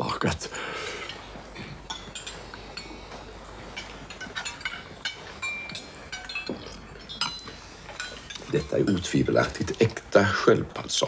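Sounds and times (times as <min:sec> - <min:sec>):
cutlery clinking on plates: 0:00.8 - 0:10.0.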